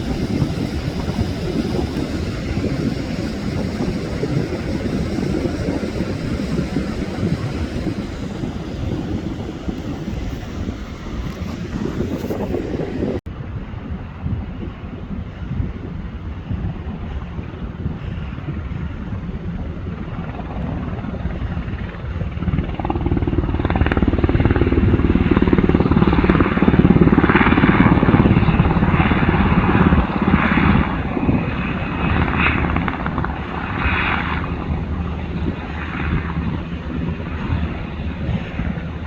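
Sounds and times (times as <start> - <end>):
helicopter flying low past: 0.0 - 39.0.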